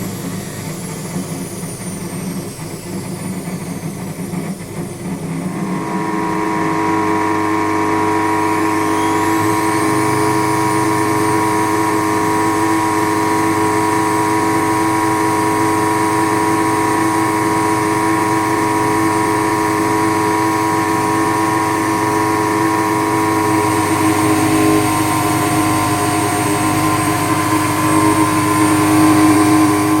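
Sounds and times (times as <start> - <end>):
washing machine humming and whining: 0.0 - 30.0.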